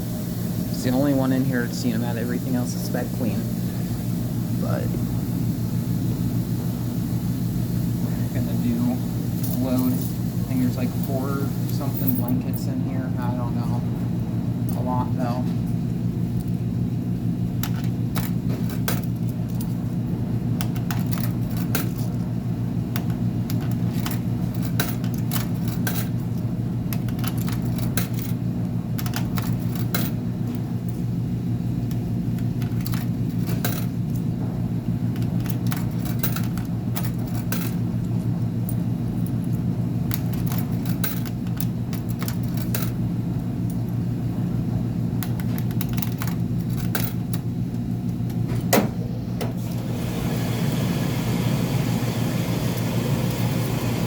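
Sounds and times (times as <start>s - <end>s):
laundry machines humming: 0.0s - 54.0s.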